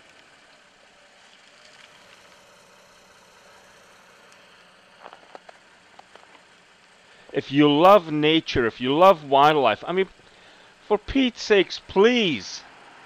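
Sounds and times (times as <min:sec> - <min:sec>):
vehicle engine idling hum: 0:00.0 - 0:13.0.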